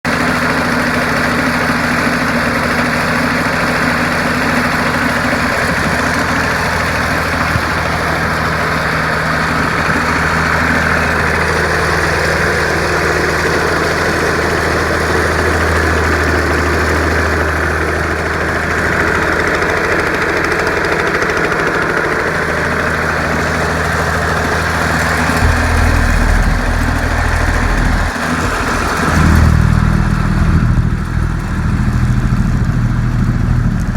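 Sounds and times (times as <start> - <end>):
two-stroke engine running: 0.0 - 33.9.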